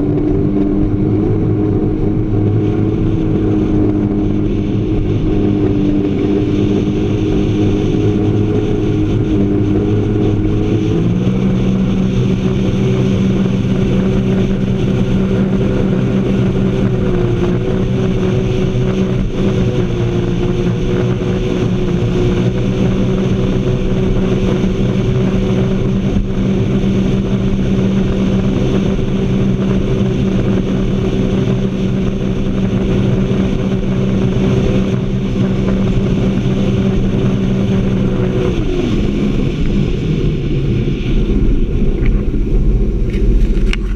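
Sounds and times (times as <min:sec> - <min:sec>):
boat engine running: 0:00.0 - 0:43.9.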